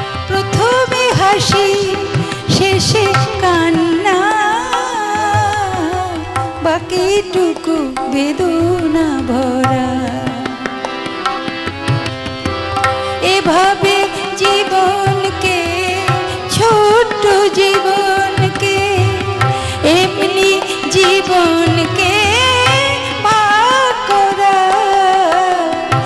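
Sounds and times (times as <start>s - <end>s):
woman singing: 0.0s - 10.9s, 12.9s - 26.0s
harmonium: 0.0s - 26.0s
tabla: 0.0s - 26.0s.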